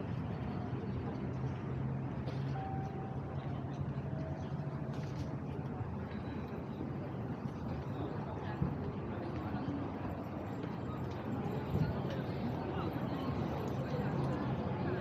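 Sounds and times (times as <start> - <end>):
faint street noise: 0.0 - 15.0
road traffic hum: 0.0 - 15.0.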